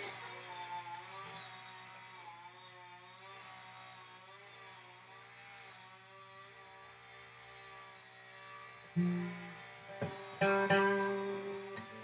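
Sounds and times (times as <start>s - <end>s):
chainsaw whining: 0.0s - 12.0s.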